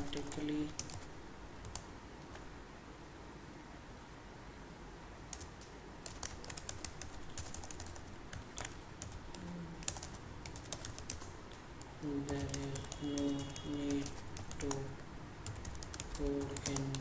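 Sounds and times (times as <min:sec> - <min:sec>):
keyboard typing clicks: 0:00.0 - 0:02.4, 0:05.3 - 0:17.0.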